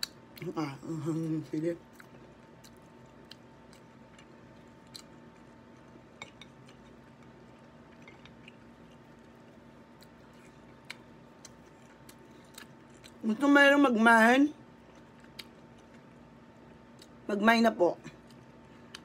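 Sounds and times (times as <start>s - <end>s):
person chewing food quietly: 0.0s - 13.2s, 14.6s - 17.2s, 18.1s - 19.0s
steady low hum: 0.0s - 19.0s.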